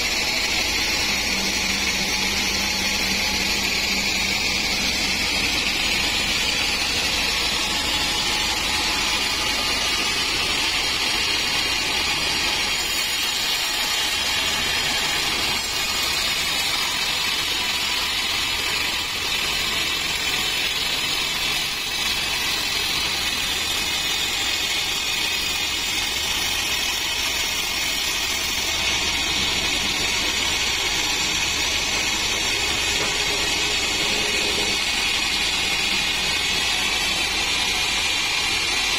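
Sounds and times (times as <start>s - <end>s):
band saw cutting a log: 0.0s - 38.9s.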